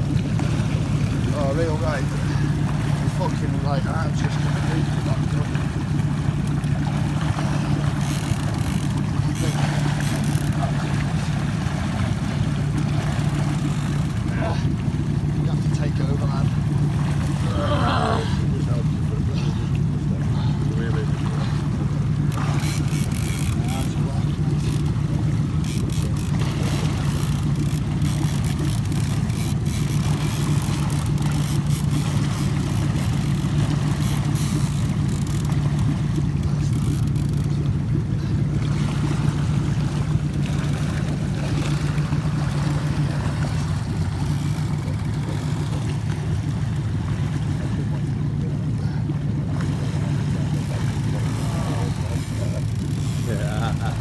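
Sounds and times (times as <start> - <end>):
boat engine droning: 0.0 - 54.0
water wash: 0.0 - 54.0.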